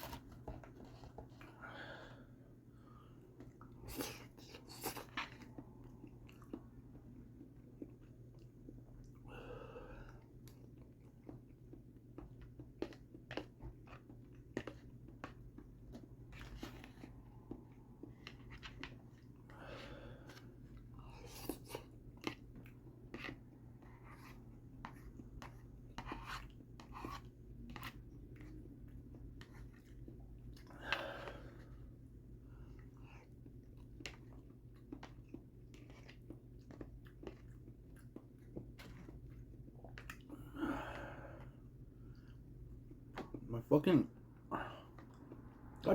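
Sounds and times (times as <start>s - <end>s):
person chewing food: 0.0s - 43.4s, 44.3s - 45.7s.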